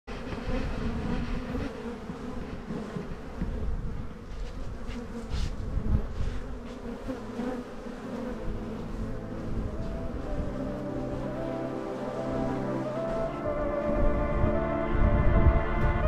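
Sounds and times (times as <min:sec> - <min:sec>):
honeybees buzzing: 0:00.1 - 0:16.0.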